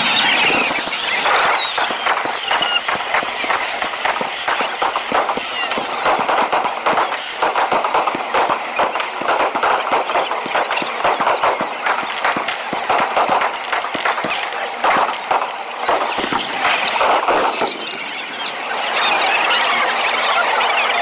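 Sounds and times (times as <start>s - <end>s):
fireworks popping and crackling: 0.0s - 18.4s.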